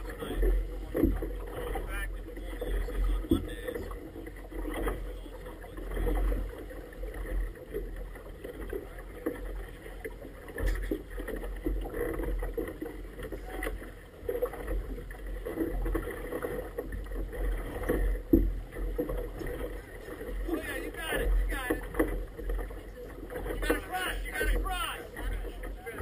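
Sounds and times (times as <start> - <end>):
water slapping against boat: 0.0 - 26.0.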